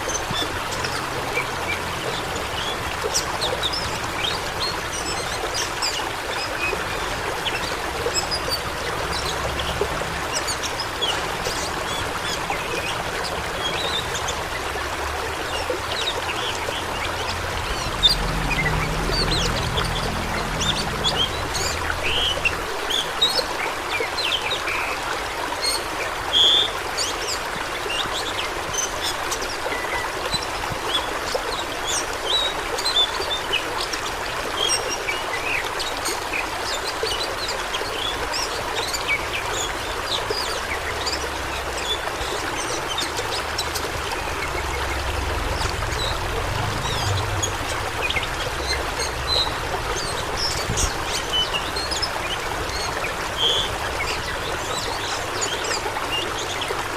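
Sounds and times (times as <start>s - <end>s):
high water drips: 0.0s - 56.9s
rushing water splashing: 0.0s - 56.9s.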